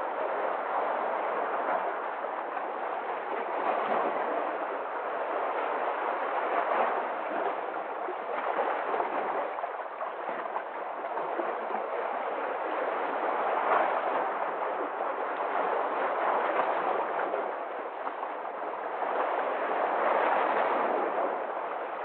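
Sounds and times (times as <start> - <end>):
sea waves washing in: 0.0 - 22.0.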